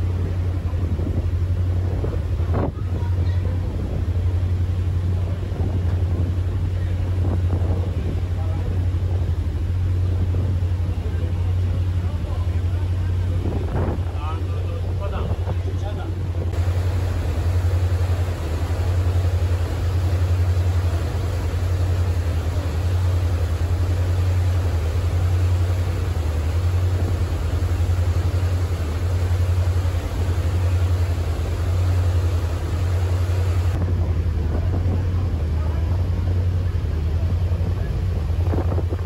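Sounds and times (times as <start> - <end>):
propeller wake rushing: 0.0 - 39.0
ship engines droning: 0.0 - 39.0.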